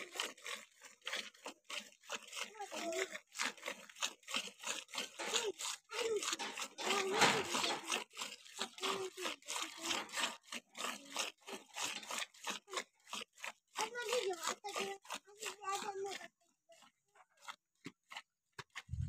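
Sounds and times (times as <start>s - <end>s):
milk squirting into a pail: 0.0s - 19.0s.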